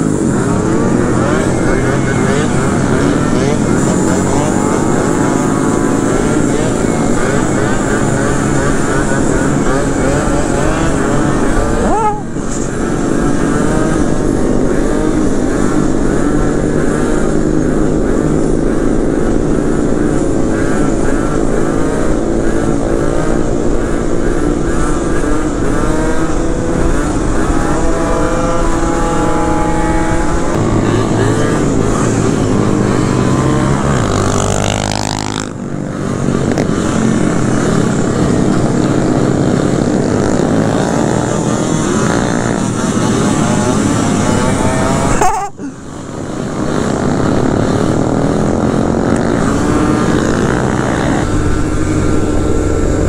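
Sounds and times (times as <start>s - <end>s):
scooter engine running: 0.0s - 53.0s
wind rush on microphone: 0.0s - 53.0s.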